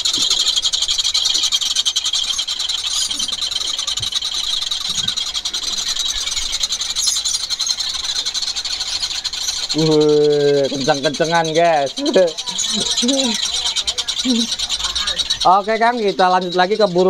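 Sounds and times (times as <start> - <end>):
kingfishers high-pitched chatter: 0.0 - 17.0.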